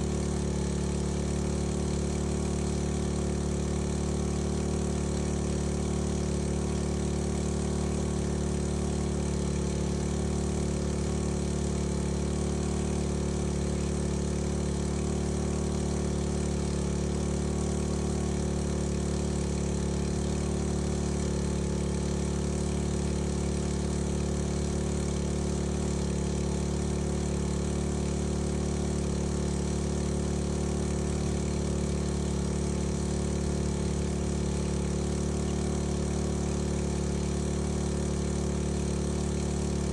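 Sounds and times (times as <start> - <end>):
engine-driven pump running: 0.0 - 39.9.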